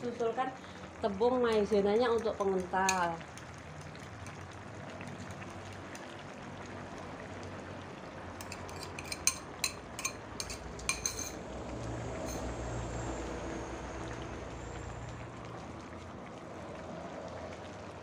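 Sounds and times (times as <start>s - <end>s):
soup simmering in a wok: 0.0s - 18.0s.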